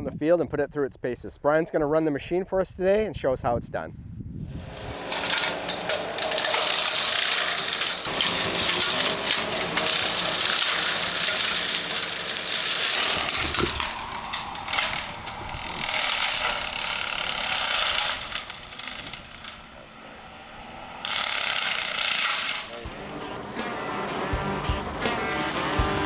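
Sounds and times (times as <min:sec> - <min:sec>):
brush cutter cutting brush: 0:04.5 - 0:25.4.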